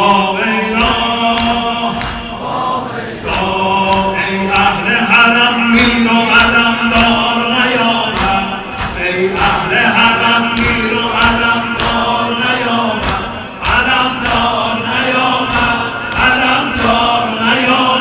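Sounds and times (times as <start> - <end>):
men chanting together: 0.0 - 18.0.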